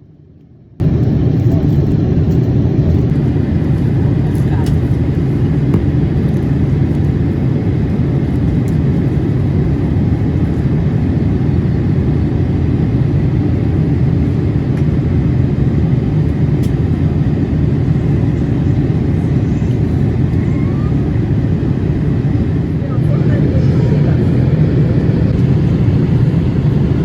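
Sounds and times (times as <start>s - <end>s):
airplane cabin engine roar: 0.0s - 27.0s.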